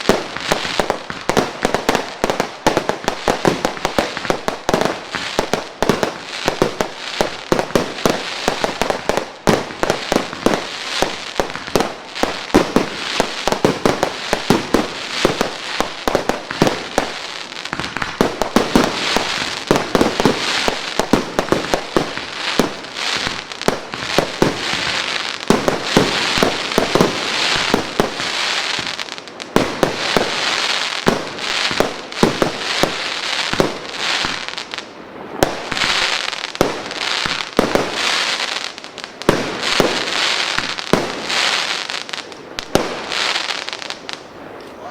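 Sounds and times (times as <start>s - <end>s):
fireworks barrage of shots: 0.0s - 44.0s
firework hissing and crackling: 0.0s - 44.5s.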